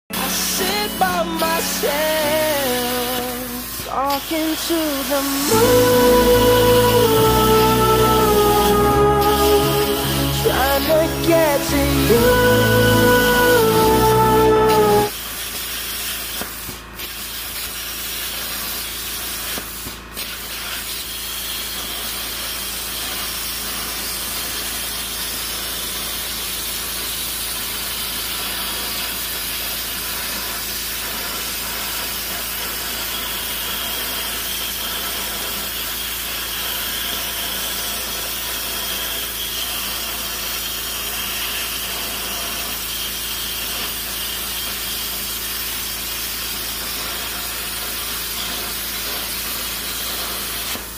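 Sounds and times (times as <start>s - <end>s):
plasma cutter hissing: 0.1s - 50.9s.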